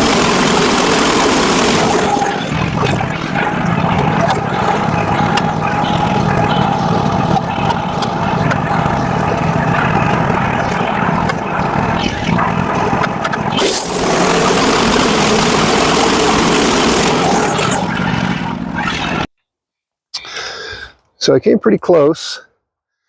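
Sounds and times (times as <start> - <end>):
bandsaw mill cutting log: 0.0 - 19.3.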